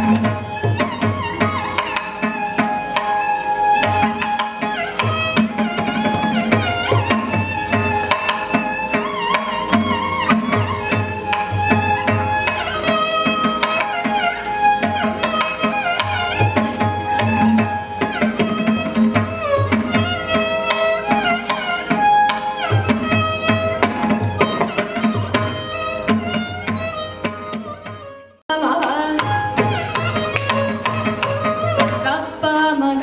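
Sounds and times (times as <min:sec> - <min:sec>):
violin accompaniment: 0:00.0 - 0:33.0.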